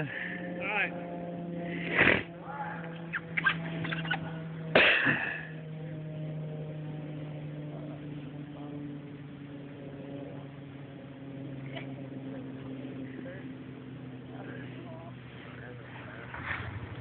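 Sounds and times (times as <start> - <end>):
motor running: 0.0 - 17.0.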